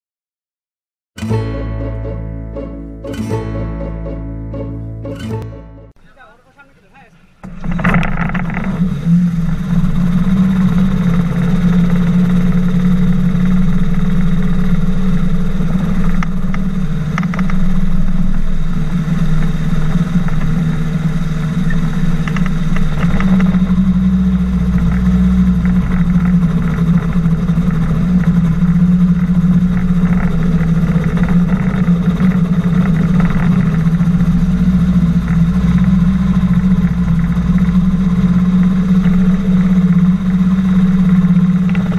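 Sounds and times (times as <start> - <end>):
engine and propeller humming: 1.6 - 41.9
deep low rumble: 7.2 - 41.9.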